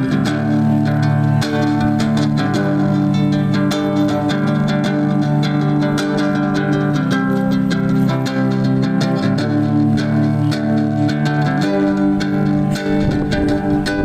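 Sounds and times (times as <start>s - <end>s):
low bass line: 0.0s - 14.0s
small nylon-string guitar strumming: 0.0s - 14.0s.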